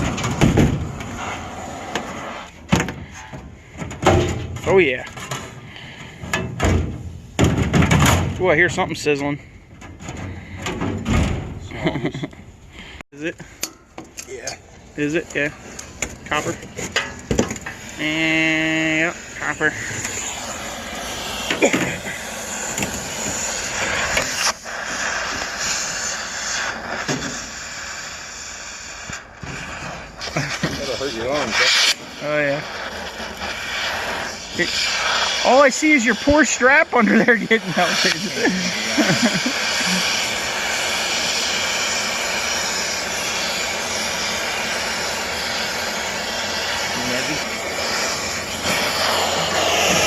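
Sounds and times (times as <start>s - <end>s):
cutting torch roaring hiss: 0.0s - 7.4s, 14.2s - 50.0s.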